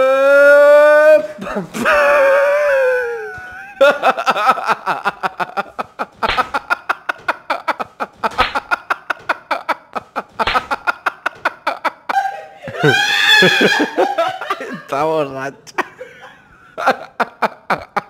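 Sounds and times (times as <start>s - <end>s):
person laughing hard: 0.7s - 15.0s, 15.7s - 18.0s.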